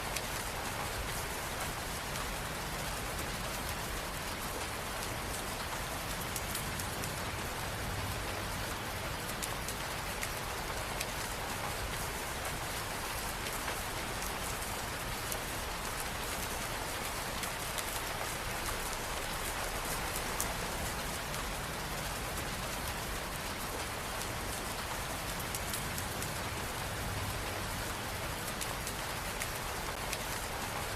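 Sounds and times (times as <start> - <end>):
rain on hard surfaces: 0.0 - 30.9.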